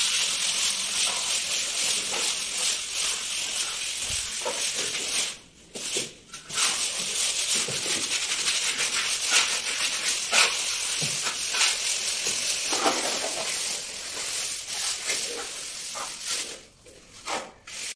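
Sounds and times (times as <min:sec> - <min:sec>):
hand float scraping plaster: 0:00.5 - 0:17.9.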